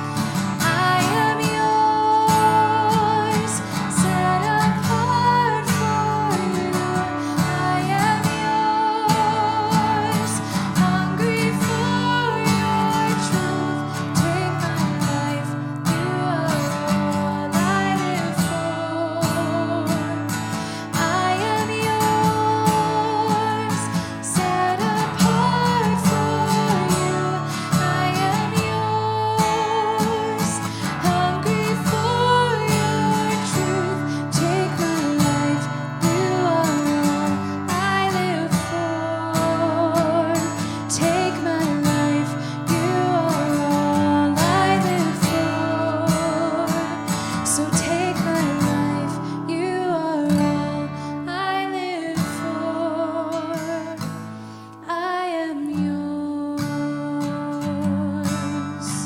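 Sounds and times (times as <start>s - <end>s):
person singing with vibrato: 0.0s - 59.0s
strummed acoustic guitar: 0.0s - 59.0s.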